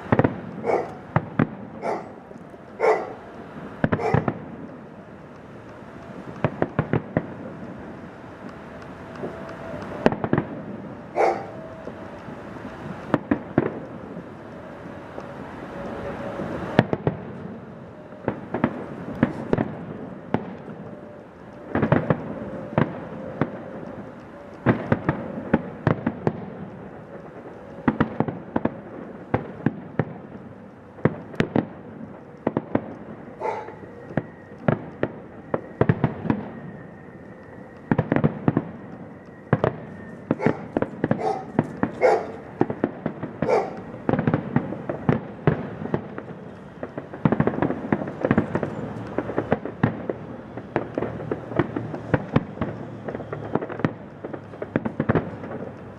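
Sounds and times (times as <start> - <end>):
fireworks bangs and crackling: 0.0 - 55.9
fireworks whistle: 0.0 - 55.9.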